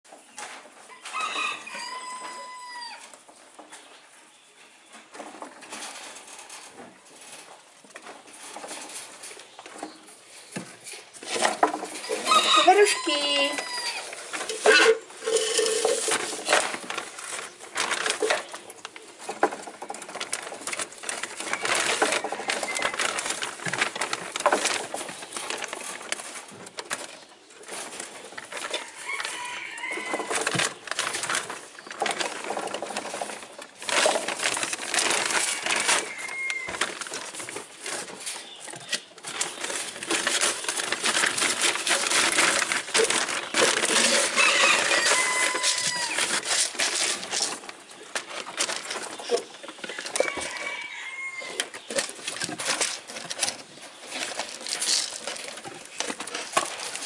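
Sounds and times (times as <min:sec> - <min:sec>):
crackling and rustling: 0:00.0 - 0:57.0.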